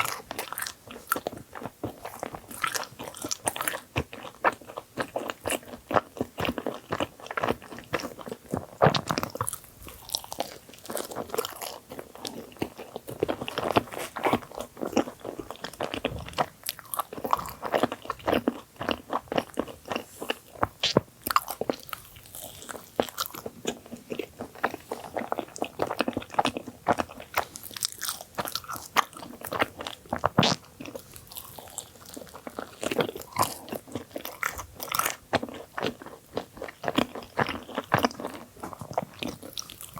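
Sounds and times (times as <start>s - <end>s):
biting and chewing bagel: 0.0s - 39.9s.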